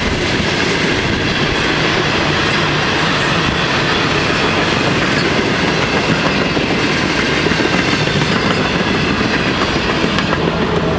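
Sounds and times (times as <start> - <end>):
freight train wheels rolling: 0.0 - 10.9.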